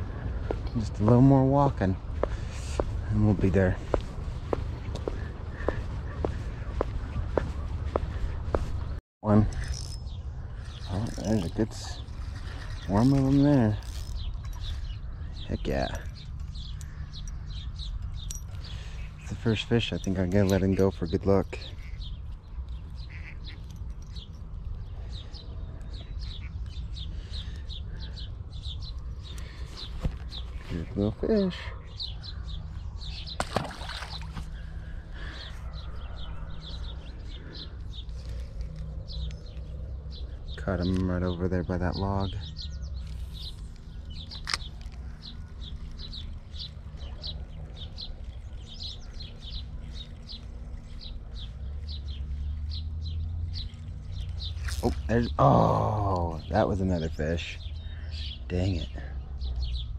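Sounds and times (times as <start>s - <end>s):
steady low rumble: 0.0s - 23.3s, 30.4s - 55.3s
small birds chirping: 0.0s - 59.9s.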